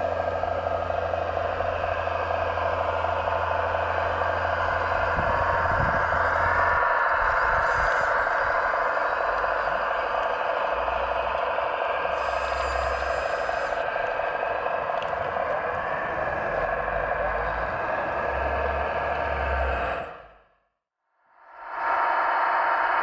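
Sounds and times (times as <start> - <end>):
steady mechanical whine: 0.0 - 20.5, 21.2 - 23.0.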